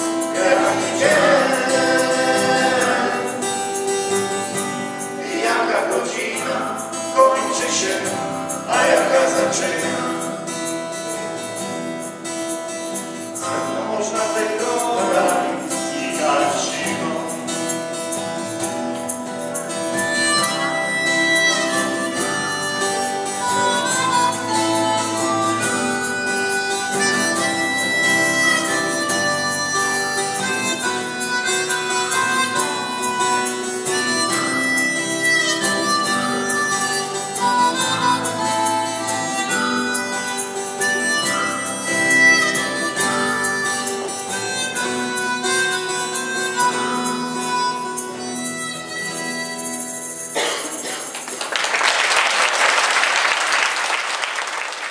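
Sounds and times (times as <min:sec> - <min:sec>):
harmonica melody: 0:00.0 - 0:51.2
acoustic guitar accompaniment: 0:00.0 - 0:54.9.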